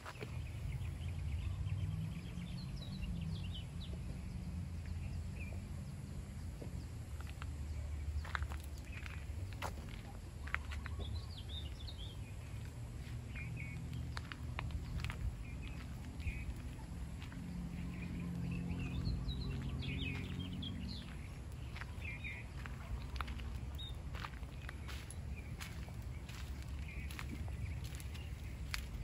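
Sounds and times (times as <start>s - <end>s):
footsteps on a path: 0.0s - 1.0s, 6.5s - 29.0s
low outdoor rumble: 0.0s - 29.0s
small birds chirping: 0.0s - 29.0s.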